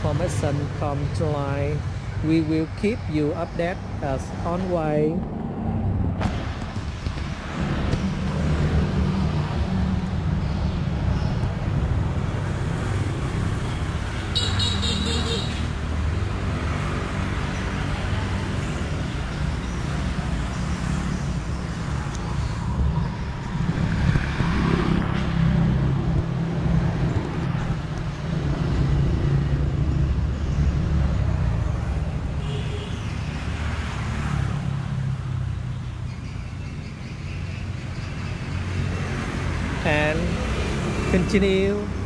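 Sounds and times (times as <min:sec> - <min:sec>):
road traffic engine rumble: 0:00.0 - 0:42.0.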